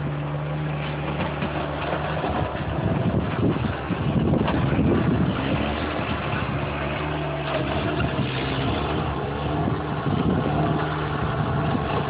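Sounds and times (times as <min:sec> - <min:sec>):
earthmover engine running: 0:00.0 - 0:12.0
wind buffeting microphone: 0:01.1 - 0:12.0.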